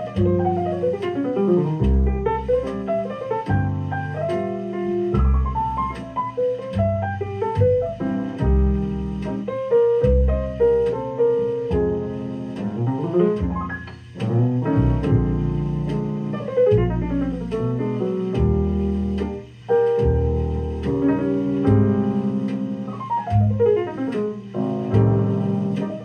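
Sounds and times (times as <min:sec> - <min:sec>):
piano music through loudspeaker: 0:00.0 - 0:26.0.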